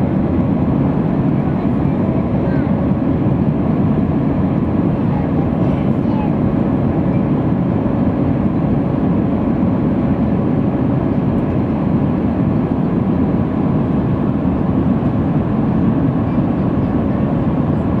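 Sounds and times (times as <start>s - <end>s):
deep rumble of jet engines: 0.0s - 18.0s.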